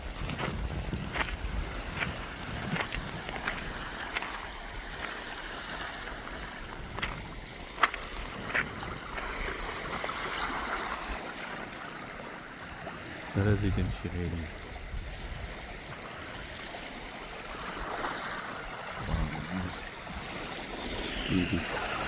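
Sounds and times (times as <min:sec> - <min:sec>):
wind rumble on microphone: 0:00.0 - 0:11.2, 0:13.4 - 0:16.8, 0:19.0 - 0:22.0
ocean surf washing on beach: 0:00.0 - 0:22.0.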